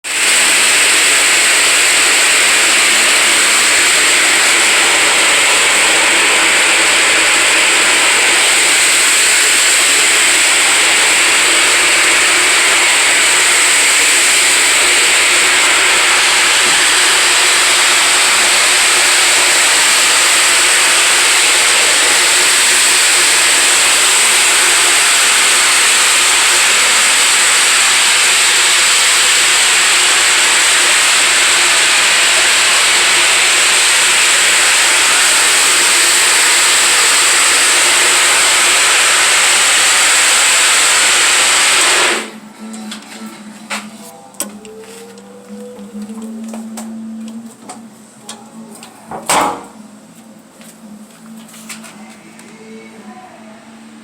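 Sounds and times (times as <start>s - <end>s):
floor sander running: 0.0s - 49.8s.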